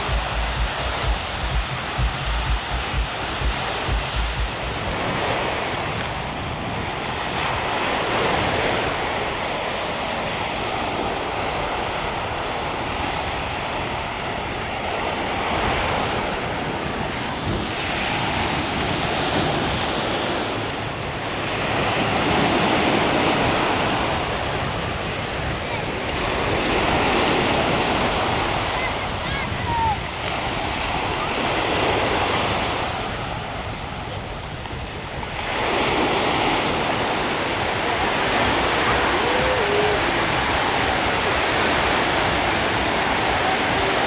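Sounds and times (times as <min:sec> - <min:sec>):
small waves washing on beach: 0:00.0 - 0:44.0
wind buffeting microphone: 0:00.0 - 0:44.0.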